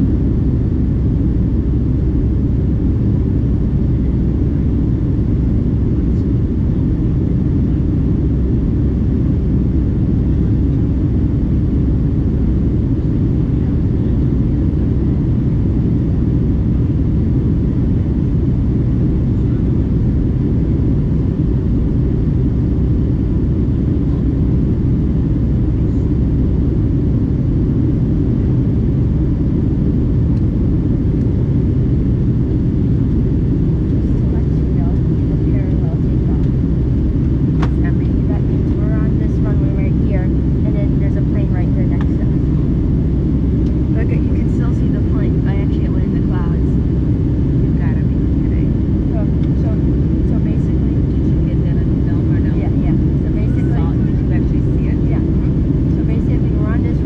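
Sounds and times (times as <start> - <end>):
faint steady whines: 0.0 - 57.0
jet airliner rumble in flight: 0.0 - 57.0.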